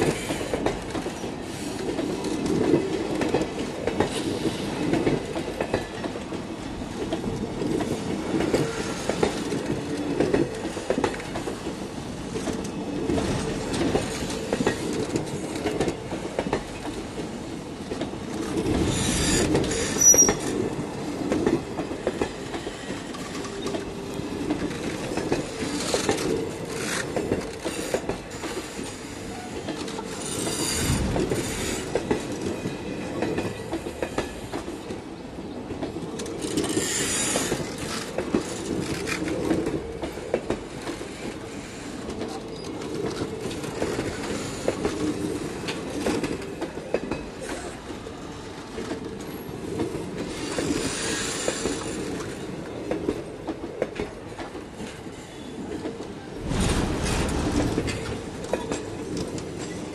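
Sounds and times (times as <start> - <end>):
train wheels clattering over rail joints: 0.0 - 34.9, 35.7 - 48.0, 48.6 - 59.9.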